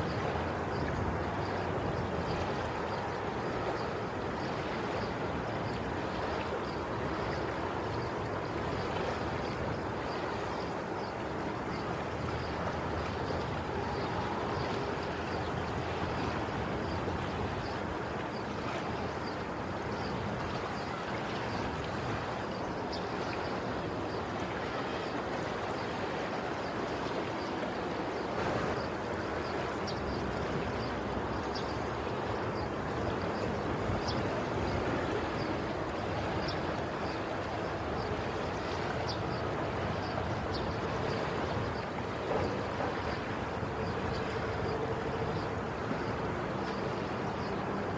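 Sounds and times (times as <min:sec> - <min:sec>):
sea waves washing on shore: 0:00.0 - 0:47.9.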